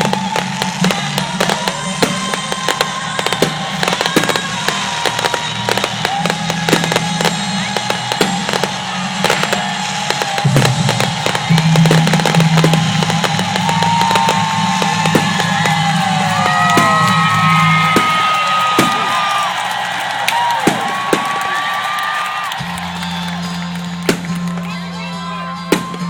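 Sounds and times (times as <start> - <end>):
fireworks cracks and bangs: 0.0 - 26.0.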